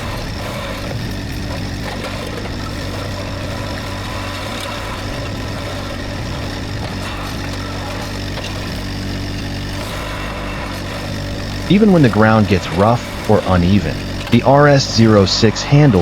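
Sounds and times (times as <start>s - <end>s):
loader engine running: 0.0s - 16.0s
mower cutting grass: 0.0s - 16.0s.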